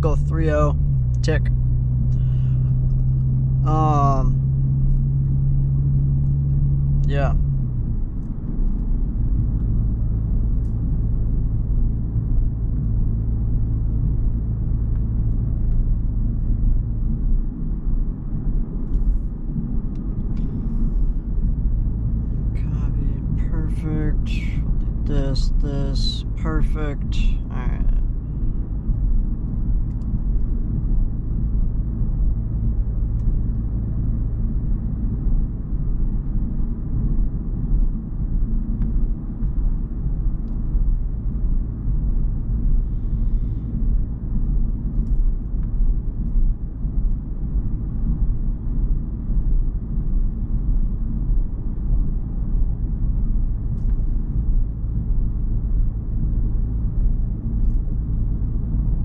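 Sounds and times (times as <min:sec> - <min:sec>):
car engine running from inside: 0:00.0 - 0:59.0.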